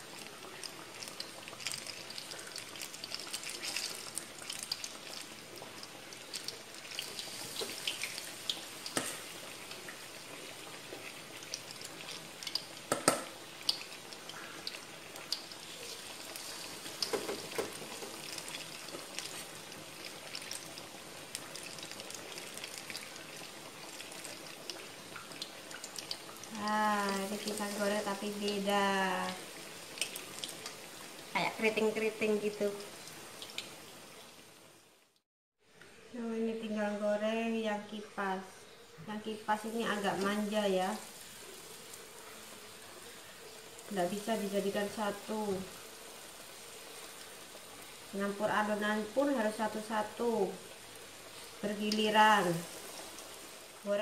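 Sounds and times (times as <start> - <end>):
fritters sizzling in hot oil: 0.0 - 35.2, 35.8 - 54.0.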